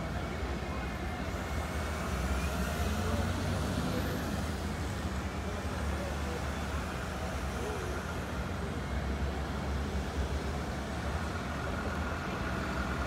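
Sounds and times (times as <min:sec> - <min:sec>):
heavy trucks driving: 0:00.0 - 0:13.0.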